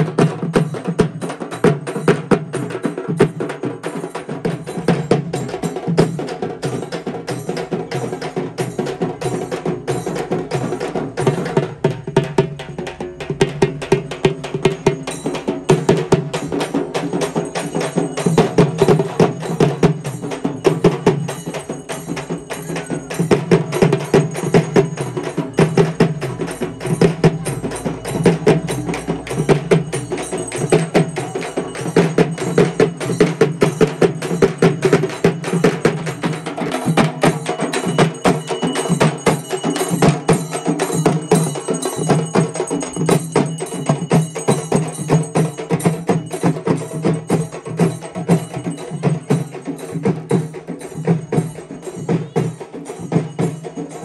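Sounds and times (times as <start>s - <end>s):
frame drums beaten with sticks: 0.0s - 54.0s.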